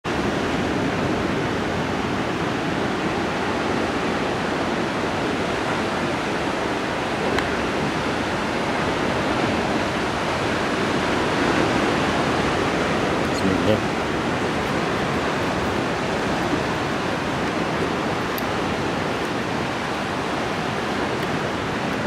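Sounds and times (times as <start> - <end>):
waves roaring on shore: 0.0 - 22.0.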